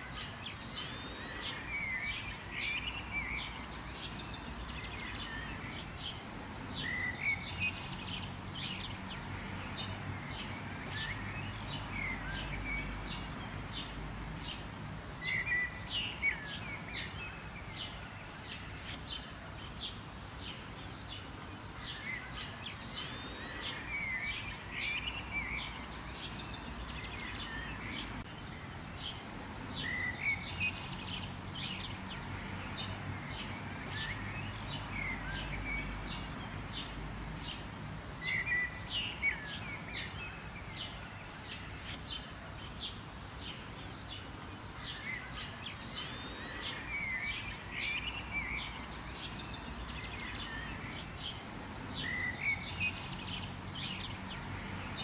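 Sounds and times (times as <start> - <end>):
birds chirping and calling: 0.0 - 55.0.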